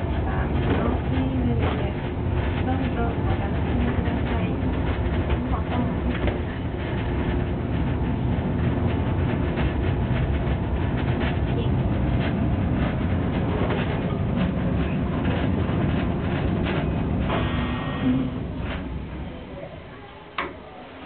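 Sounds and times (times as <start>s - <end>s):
clicks and rattles: 0.0s - 19.6s
miniature train wheels rumbling on rail: 0.0s - 21.0s.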